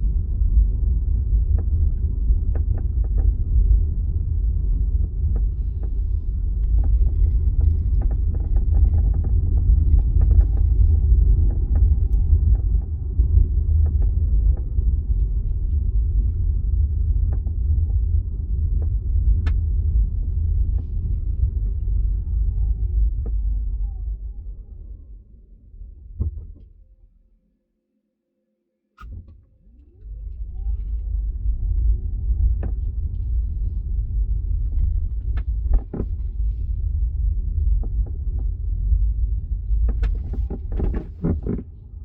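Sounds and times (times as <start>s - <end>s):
road rumble inside car: 0.0s - 27.3s, 29.0s - 42.0s.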